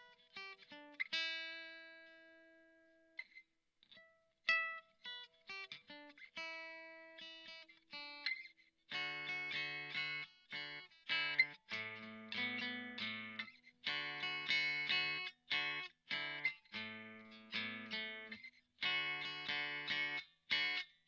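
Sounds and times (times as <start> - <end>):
acoustic guitar playing: 0.0 - 3.3, 4.0 - 20.9.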